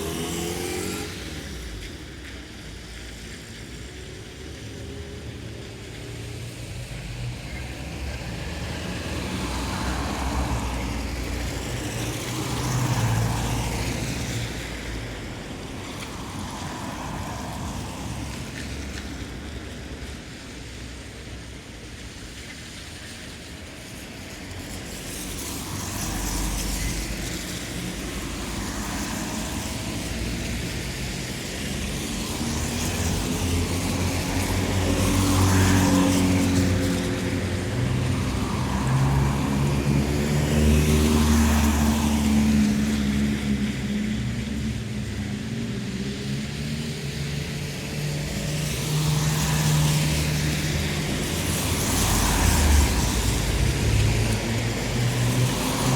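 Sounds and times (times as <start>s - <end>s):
tyres hissing on wet road: 0.0s - 55.9s.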